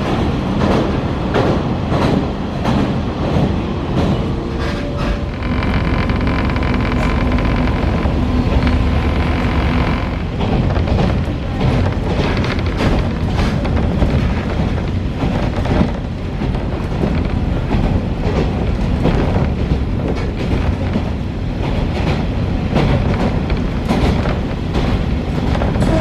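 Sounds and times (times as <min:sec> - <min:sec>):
railcar rumble: 0:00.0 - 0:26.0
faint wheel clicks on rails: 0:05.1 - 0:26.0.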